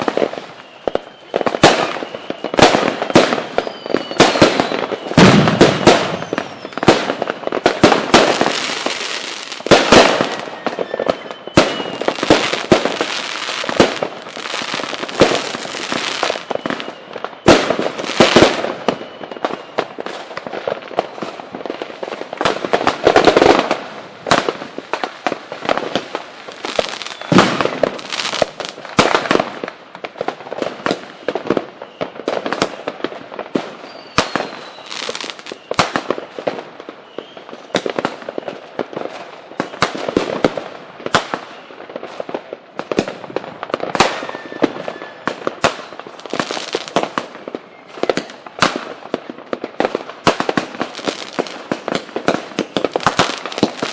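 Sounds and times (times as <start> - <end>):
fireworks banging and crackling: 0.0 - 53.9.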